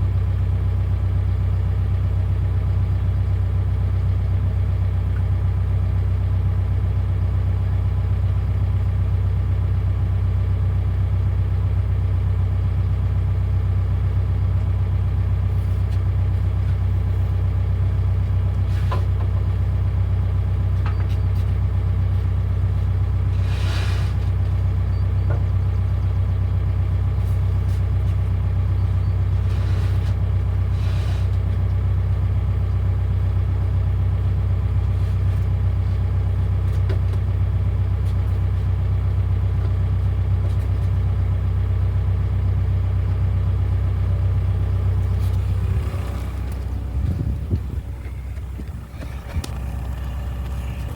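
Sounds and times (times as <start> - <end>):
excavator engine droning: 0.0 - 50.9.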